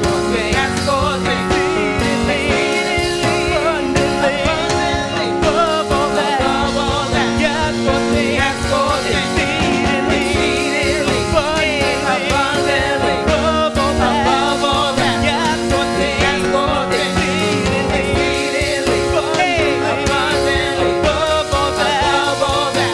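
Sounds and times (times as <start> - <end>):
band accompaniment: 0.0 - 22.9
choir singing gospel chorus: 0.0 - 22.9.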